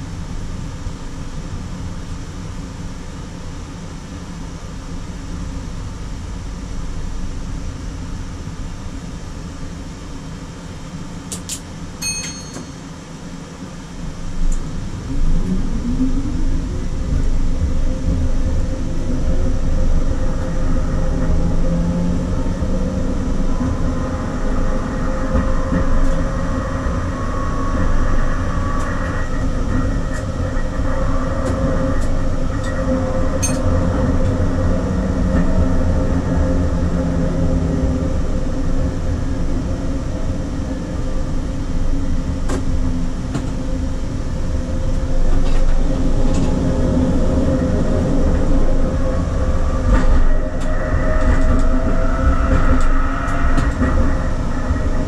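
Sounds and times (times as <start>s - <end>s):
tram wheels rumbling on rail: 0.0s - 55.0s
tram whine: 0.0s - 55.0s.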